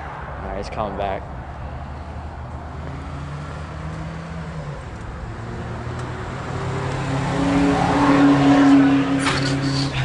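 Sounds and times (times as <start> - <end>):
car engine hum: 0.0 - 10.0.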